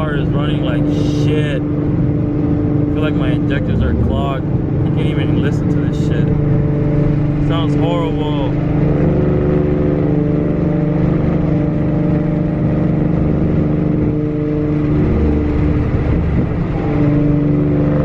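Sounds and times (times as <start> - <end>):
car engine running rough: 0.0 - 18.0.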